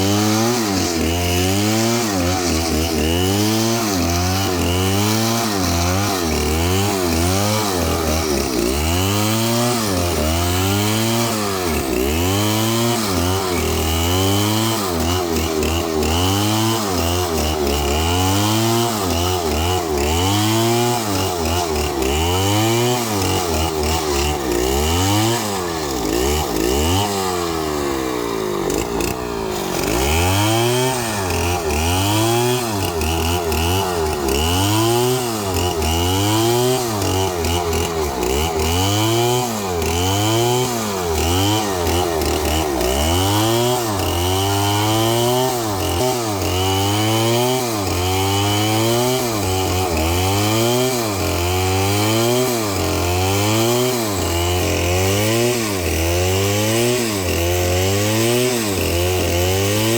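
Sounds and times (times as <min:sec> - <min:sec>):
chainsaw cutting wood revving: 0:00.0 - 0:59.9.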